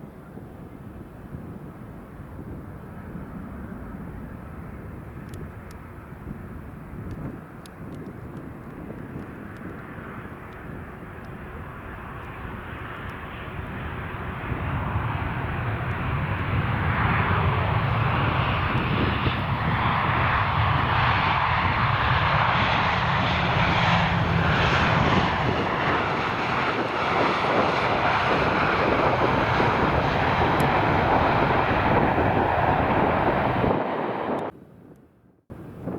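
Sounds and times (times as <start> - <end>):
jet aircraft engines: 0.0 - 35.9.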